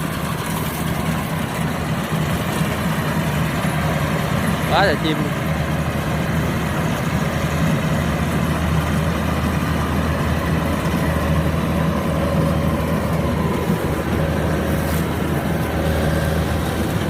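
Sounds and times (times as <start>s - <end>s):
combine harvester engine droning: 0.0s - 17.0s.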